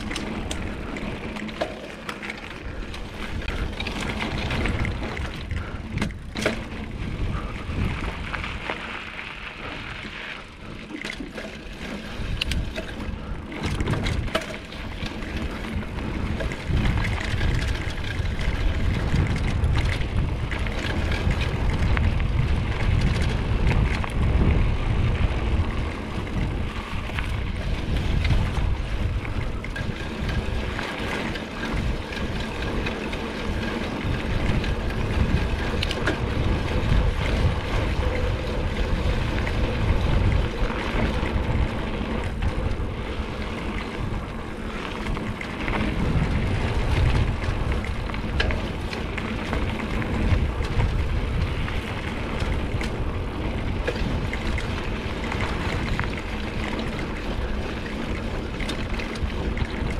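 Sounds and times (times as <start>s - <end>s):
wind rushing over microphone: 0.0s - 10.8s, 11.7s - 59.9s
bike rattling and knocking: 0.0s - 59.9s
bike tyres rolling on dirt: 0.0s - 59.9s.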